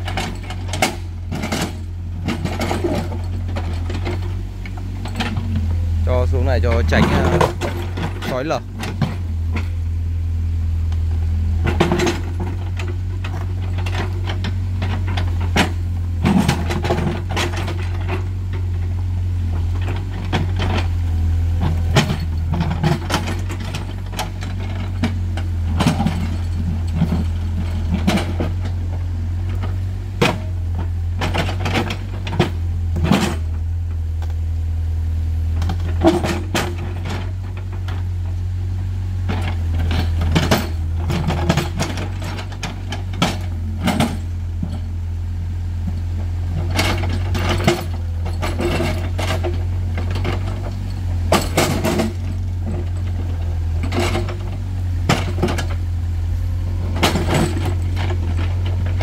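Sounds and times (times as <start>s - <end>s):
excavator engine drone: 0.0s - 59.0s.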